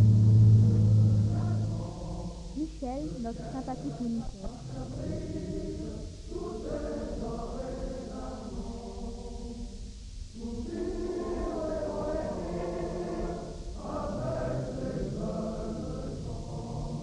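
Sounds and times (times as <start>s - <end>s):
choir singing held chords: 0.0s - 17.0s.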